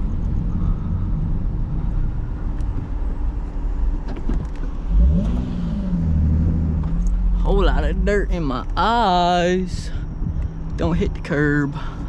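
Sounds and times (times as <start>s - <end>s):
car engine rumbling and revving: 0.0s - 12.0s.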